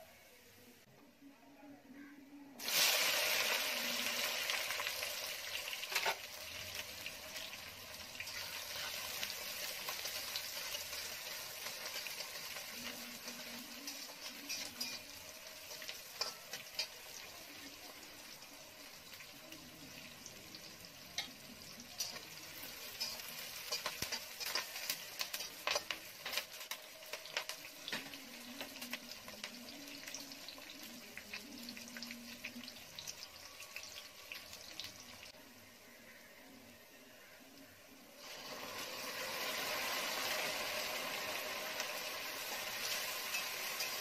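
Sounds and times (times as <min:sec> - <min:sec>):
food sizzling in hot oil: 0:02.6 - 0:35.4, 0:38.1 - 0:44.0.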